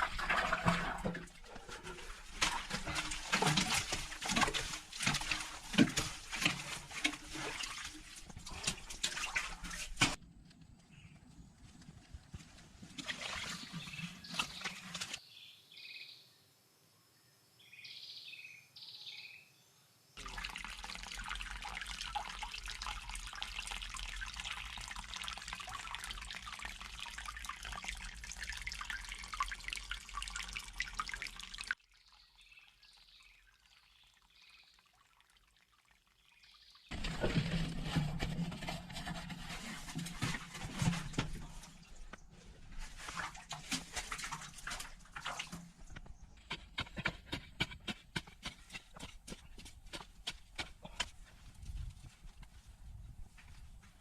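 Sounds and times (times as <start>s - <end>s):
water pouring and splashing: 0.0s - 10.2s, 12.4s - 15.2s, 20.2s - 53.7s.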